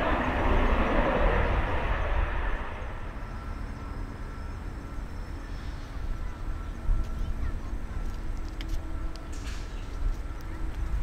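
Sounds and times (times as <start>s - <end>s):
distant jet aircraft rumble: 0.0s - 11.0s
faint high whine: 0.0s - 11.0s.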